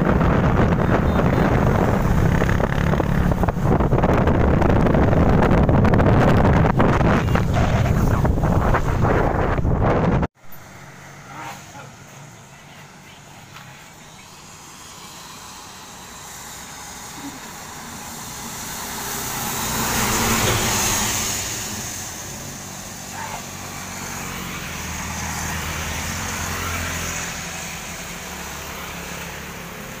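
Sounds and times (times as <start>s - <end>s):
low engine drone: 0.0s - 30.0s
vehicle passing: 0.0s - 30.0s.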